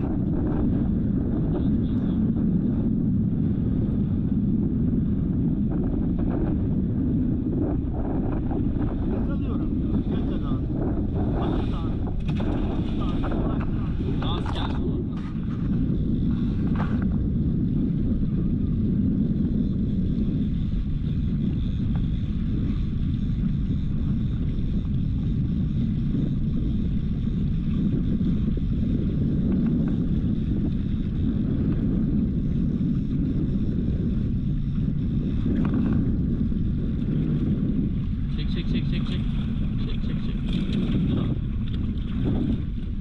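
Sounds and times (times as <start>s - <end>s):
boat motor running: 0.0s - 43.0s
wind noise on microphone: 0.0s - 43.0s.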